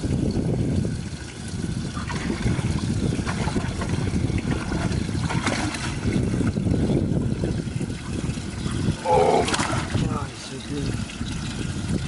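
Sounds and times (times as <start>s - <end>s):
water splashes: 0.0s - 12.0s
water trickling and sloshing: 0.0s - 12.0s
wind buffeting microphone: 0.0s - 12.0s.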